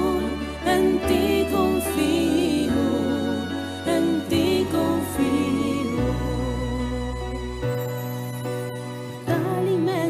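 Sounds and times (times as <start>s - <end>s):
devotional song with vibrato melody: 0.0s - 10.0s.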